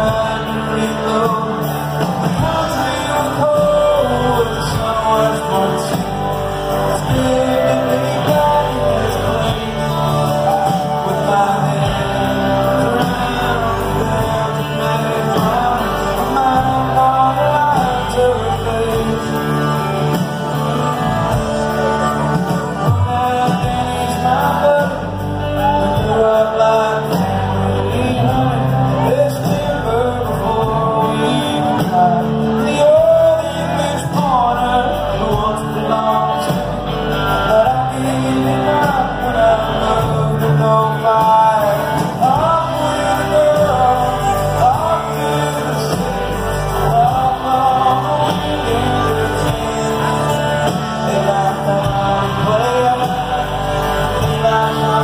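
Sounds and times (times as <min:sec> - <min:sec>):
live country band playing: 0:00.0 - 0:55.0
male singer singing: 0:00.0 - 0:55.0.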